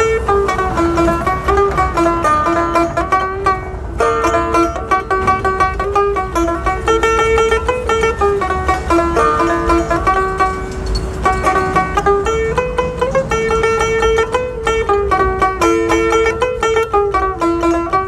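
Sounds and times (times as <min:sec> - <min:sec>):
plucked lute melody: 0:00.0 - 0:18.0.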